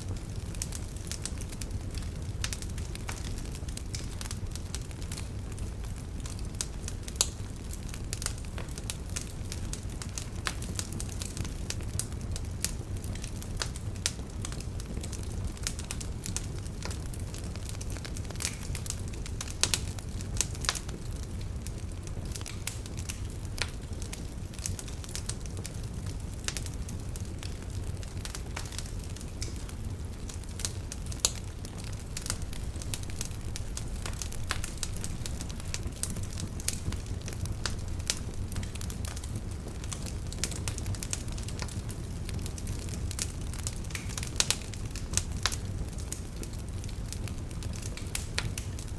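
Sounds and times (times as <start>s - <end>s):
fire crackling and popping: 0.0s - 48.9s
fire rumbling: 0.0s - 48.9s.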